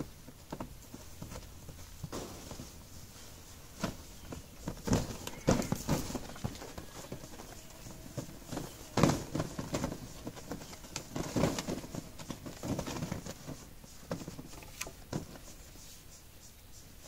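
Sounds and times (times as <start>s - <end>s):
monkeys jumping and climbing: 0.0s - 17.0s.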